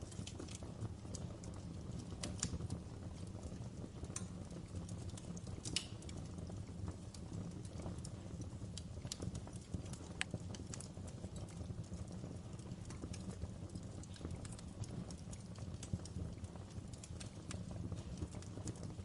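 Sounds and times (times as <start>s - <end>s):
fire crackling and popping: 0.0s - 19.0s
fire low rumble: 0.0s - 19.0s.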